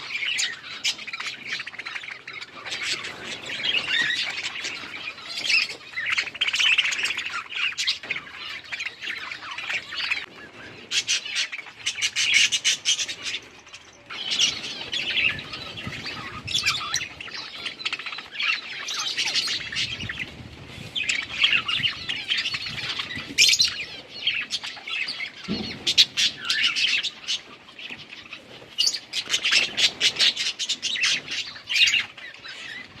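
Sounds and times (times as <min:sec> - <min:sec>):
budgerigars chirping and chattering: 0:00.0 - 0:33.0.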